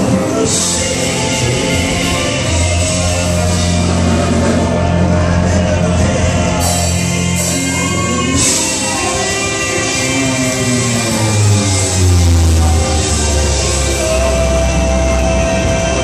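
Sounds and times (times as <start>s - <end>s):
band of drums keyboard and bass: 0.0s - 16.0s
gospel quartet singing: 0.0s - 16.0s.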